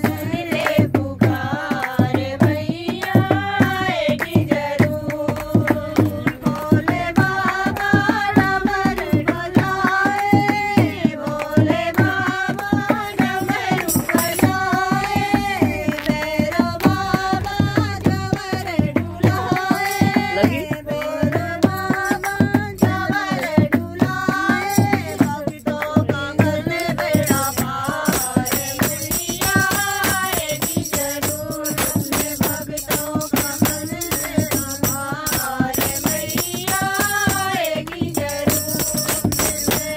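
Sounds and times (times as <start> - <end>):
devotional song singing: 0.0 - 39.9
hand clapping: 0.0 - 39.9
hand drum beat: 0.0 - 39.9.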